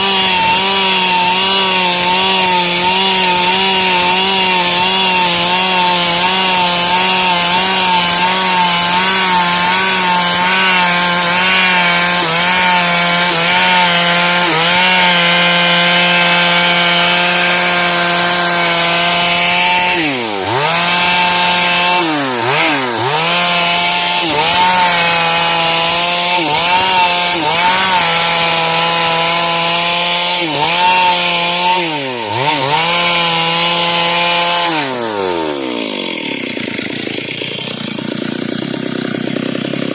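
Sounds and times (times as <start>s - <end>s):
chainsaw cutting through wood: 0.0s - 39.9s.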